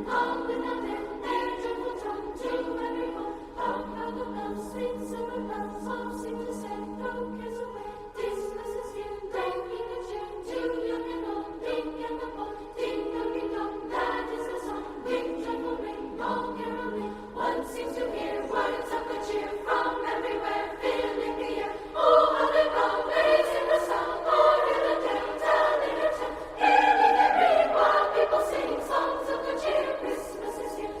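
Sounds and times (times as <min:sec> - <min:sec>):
choir singing held chords: 0:00.0 - 0:31.0.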